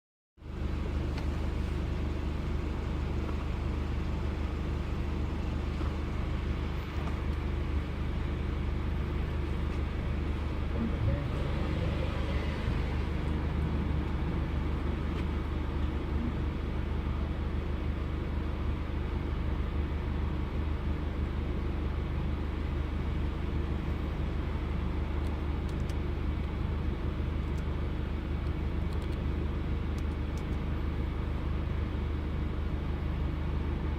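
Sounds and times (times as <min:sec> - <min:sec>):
engine idling with misfire: 0:00.4 - 0:33.9.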